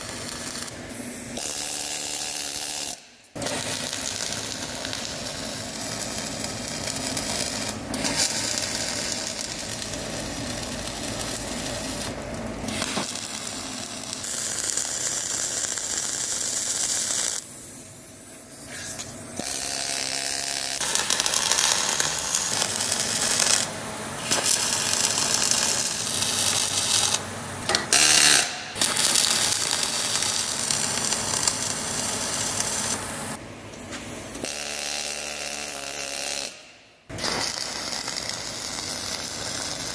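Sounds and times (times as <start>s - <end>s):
welding arc crackling: 0.0s - 17.9s, 19.4s - 27.3s, 27.9s - 33.2s, 34.3s - 39.9s.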